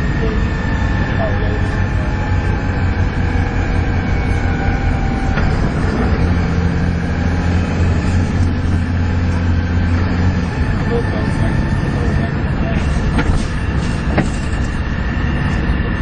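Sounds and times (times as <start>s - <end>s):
bus diesel engine with whine: 0.0s - 16.0s.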